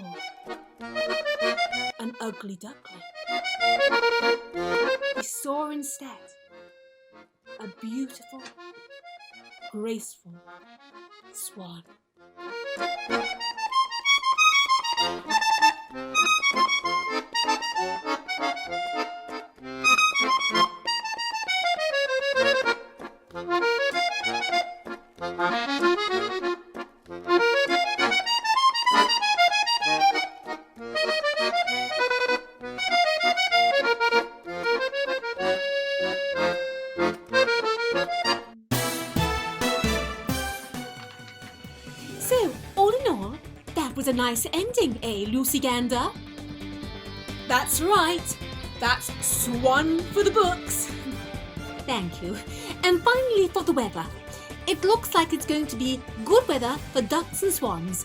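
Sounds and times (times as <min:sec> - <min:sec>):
instrumental music: 0:00.0 - 0:58.0.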